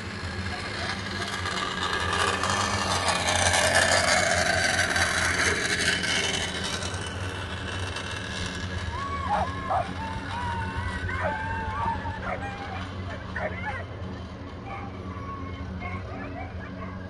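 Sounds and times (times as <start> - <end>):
mechanical lure whirring along track: 0.0 - 17.0
steady low hum: 0.0 - 17.0.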